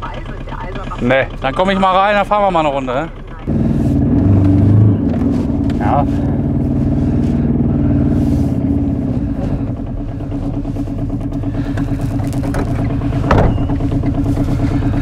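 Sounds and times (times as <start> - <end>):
diesel car engine pulsing: 0.0 - 15.0.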